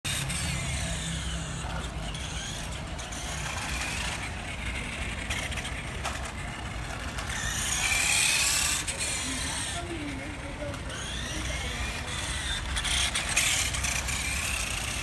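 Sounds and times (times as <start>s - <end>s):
toy motorcycle electric motor whining: 0.1s - 15.0s.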